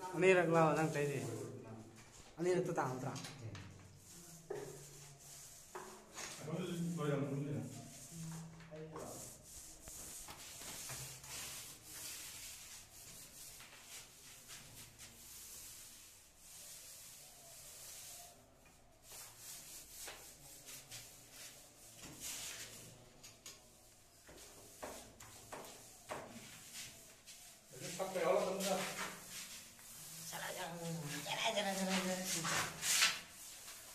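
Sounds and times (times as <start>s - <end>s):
paint roller rubbing strokes: 0.1s - 33.9s.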